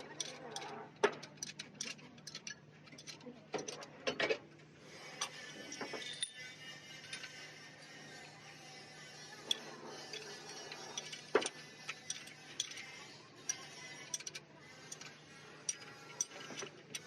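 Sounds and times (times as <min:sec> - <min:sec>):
metal tools clicking and tapping: 0:00.0 - 0:04.4, 0:05.1 - 0:07.5, 0:09.2 - 0:17.0.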